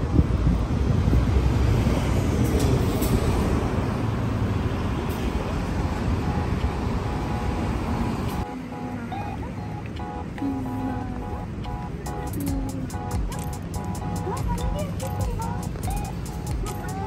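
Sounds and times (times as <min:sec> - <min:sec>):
passing cars and buses rumbling: 0:00.0 - 0:17.0.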